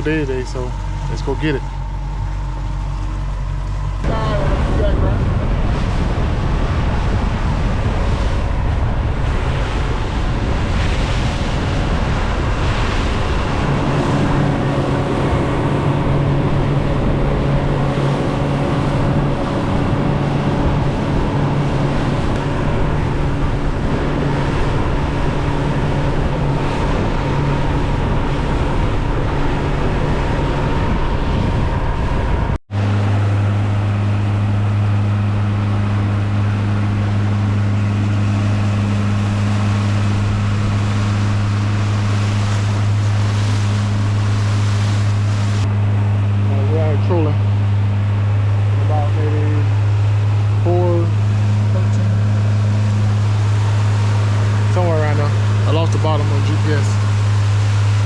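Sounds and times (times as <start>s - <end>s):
outboard motor running: 0.0s - 58.0s
water rushing past hull: 0.0s - 58.0s
wind buffeting microphone: 0.0s - 58.0s.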